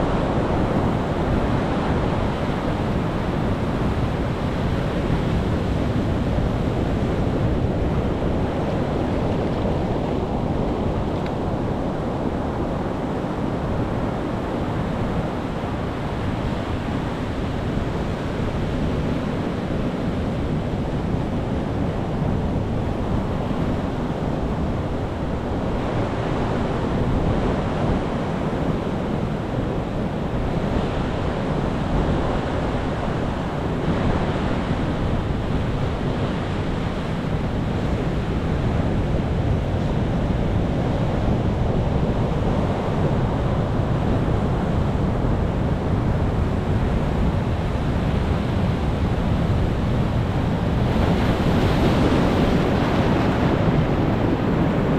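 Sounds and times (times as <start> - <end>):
ocean waves washing onto shore: 0.0 - 54.9.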